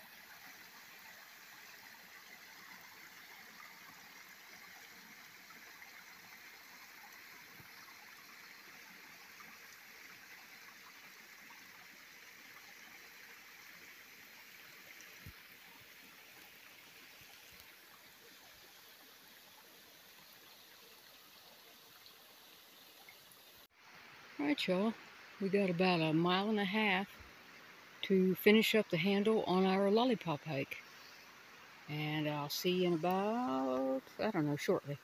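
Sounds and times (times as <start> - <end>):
creek trickling over stone: 0.0 - 35.0.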